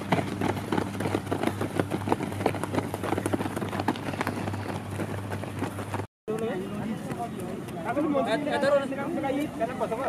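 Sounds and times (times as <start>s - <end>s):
runners' footsteps on dirt track: 0.0s - 10.0s.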